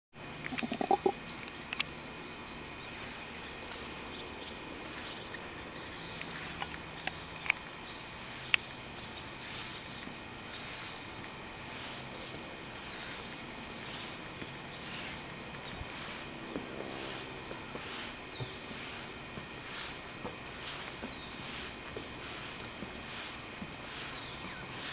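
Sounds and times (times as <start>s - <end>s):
insect chorus drone: 0.2s - 24.9s.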